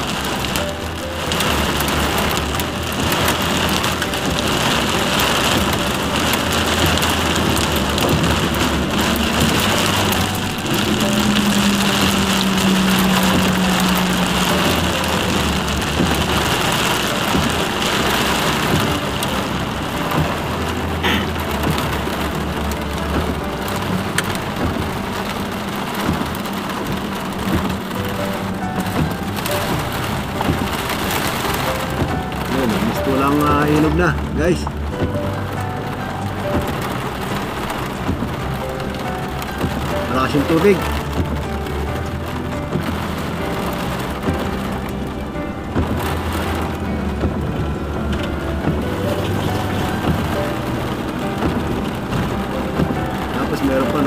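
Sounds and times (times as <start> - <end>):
car engine: 0.0 - 54.0
heavy rain pelting a car: 0.0 - 54.0
tyres on flooded road: 0.0 - 54.0.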